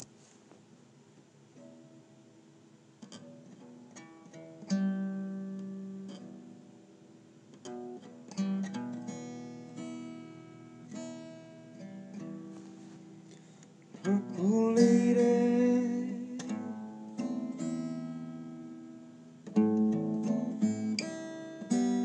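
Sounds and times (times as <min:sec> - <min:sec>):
acoustic guitar plucked notes: 0:03.0 - 0:06.8, 0:07.5 - 0:22.0.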